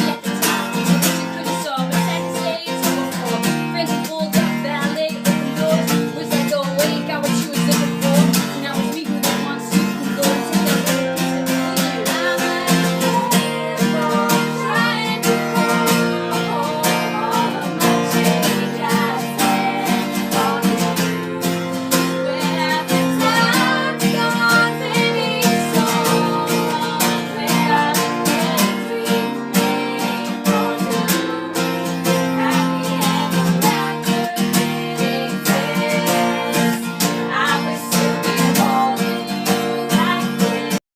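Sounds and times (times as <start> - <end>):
strummed acoustic guitar: 0.0 - 40.8.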